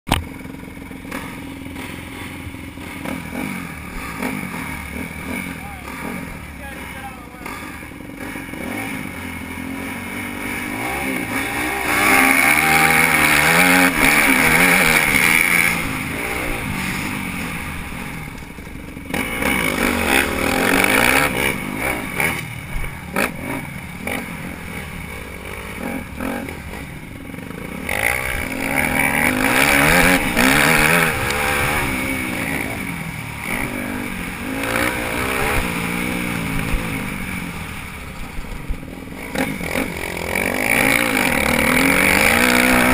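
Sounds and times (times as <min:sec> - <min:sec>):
dirt bike engine revving: 0:00.1 - 0:42.9.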